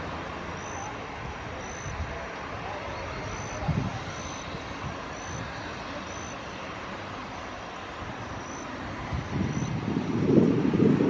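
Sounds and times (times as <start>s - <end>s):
jet engines idling: 0.0s - 11.0s.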